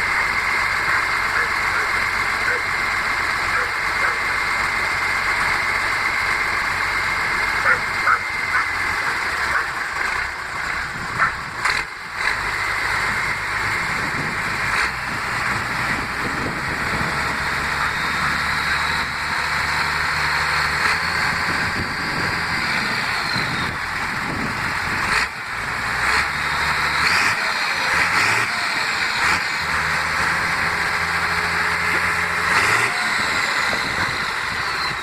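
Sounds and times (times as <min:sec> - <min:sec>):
diesel engine drone: 0:00.0 - 0:35.0.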